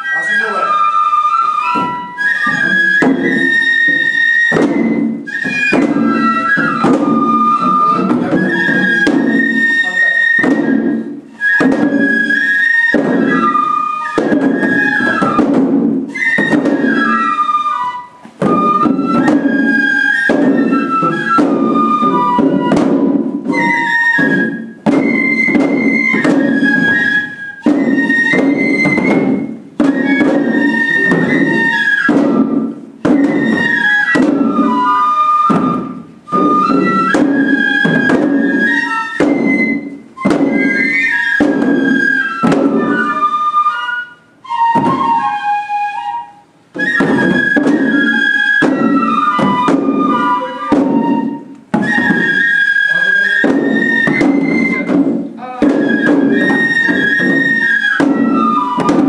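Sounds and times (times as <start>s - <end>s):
bamboo flutes playing melody: 0.0s - 59.0s
drums beating: 0.1s - 59.0s.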